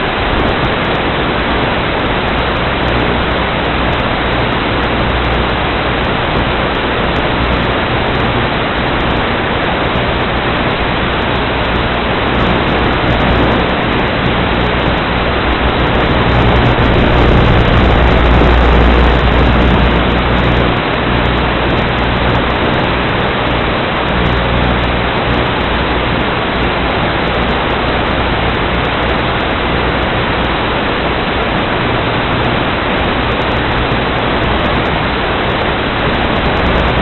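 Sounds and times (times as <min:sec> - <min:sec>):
drone wind and motor noise: 0:00.0 - 0:37.0.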